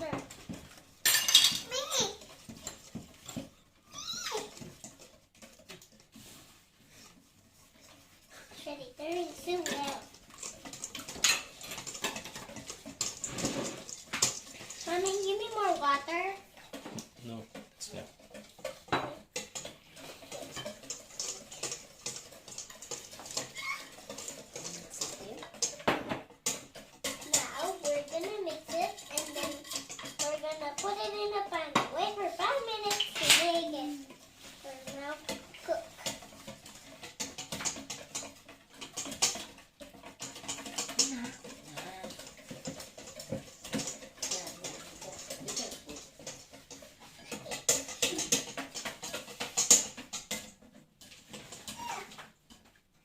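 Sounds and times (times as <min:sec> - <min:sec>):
utensil tapping mixing bowl: 0:00.0 - 0:52.8.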